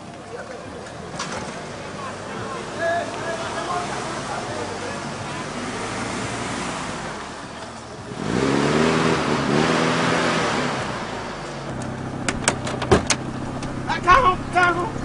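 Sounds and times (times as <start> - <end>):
car engine revving: 1.0 - 15.0.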